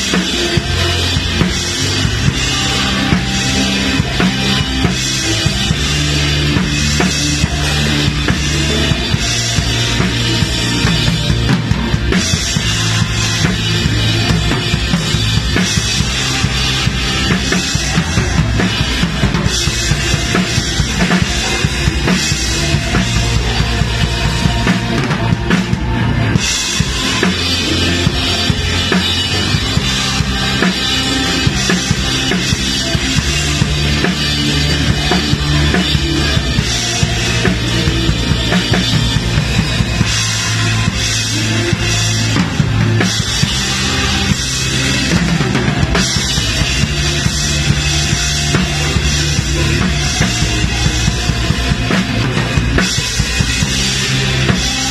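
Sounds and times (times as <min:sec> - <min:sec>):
live band music: 0:00.0 - 0:54.9.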